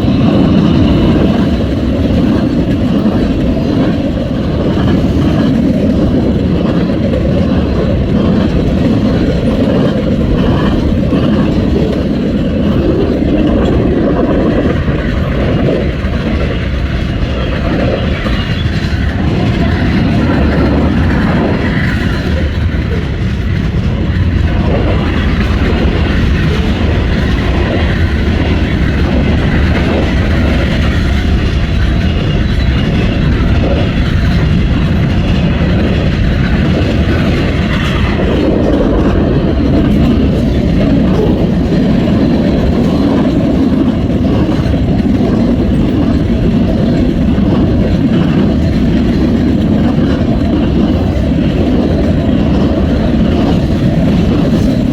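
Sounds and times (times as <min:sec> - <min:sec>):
train wheels clattering over rails: 0:00.0 - 0:54.9.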